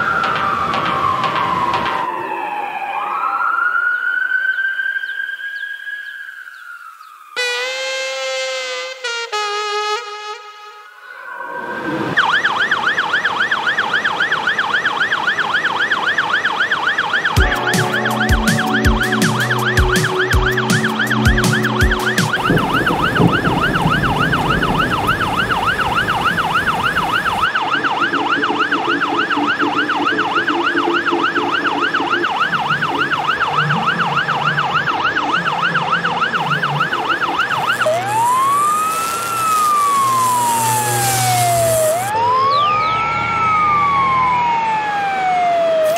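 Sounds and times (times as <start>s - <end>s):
ambulance siren: 0.0s - 45.9s.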